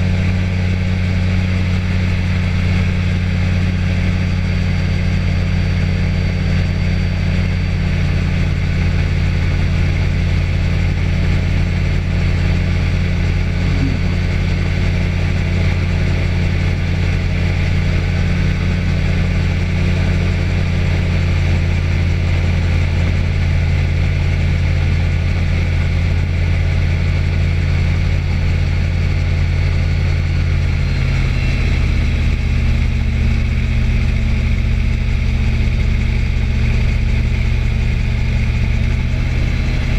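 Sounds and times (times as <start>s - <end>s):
light aircraft engine running: 0.0s - 39.9s.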